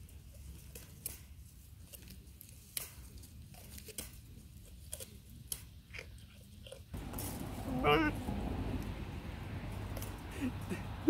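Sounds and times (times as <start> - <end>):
goat crunching carrot: 0.0 - 11.0.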